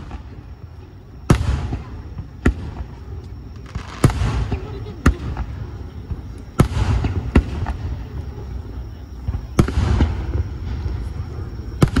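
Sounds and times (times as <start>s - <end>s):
fireworks bangs: 0.0s - 12.0s
small fireworks cracks: 0.0s - 12.0s.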